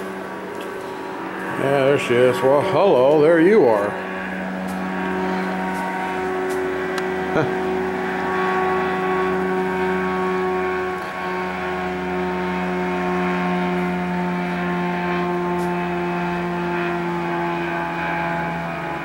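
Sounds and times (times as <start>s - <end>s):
microlight engine drone overhead: 0.0s - 19.0s.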